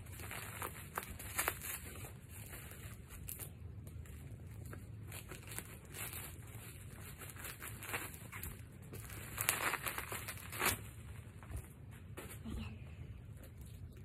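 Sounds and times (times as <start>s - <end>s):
bubble wrap rustling and crinkling: 0.0s - 12.6s.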